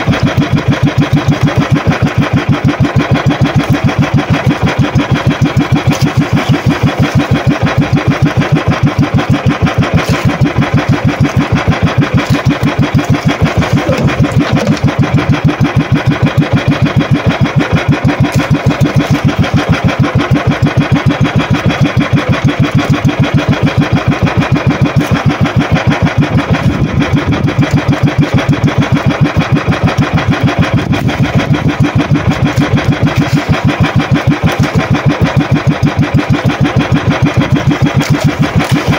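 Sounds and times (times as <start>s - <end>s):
small boat engine running: 0.0s - 38.9s.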